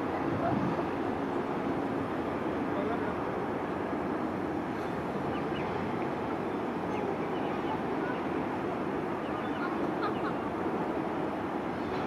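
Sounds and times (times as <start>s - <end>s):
distant airport rumble: 0.0s - 12.0s.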